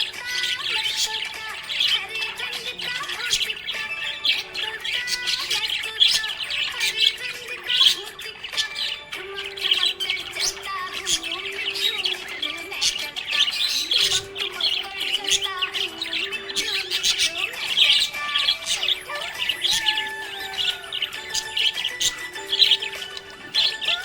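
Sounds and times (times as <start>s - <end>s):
budgerigars chirping: 0.0s - 24.0s.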